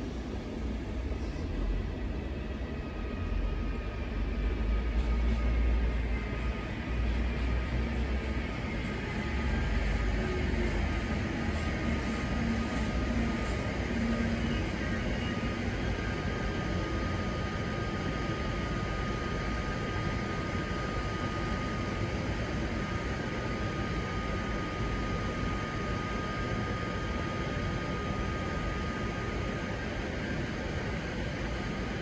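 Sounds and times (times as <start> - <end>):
high-pitched whine: 0.0 - 32.0
rumble and hiss: 0.0 - 32.0.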